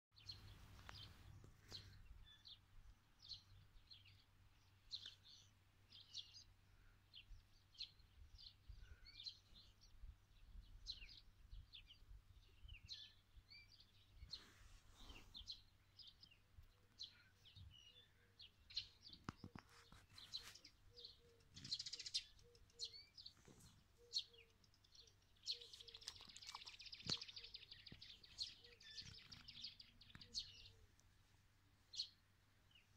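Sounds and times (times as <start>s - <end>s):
small birds chirping: 0.1s - 32.9s.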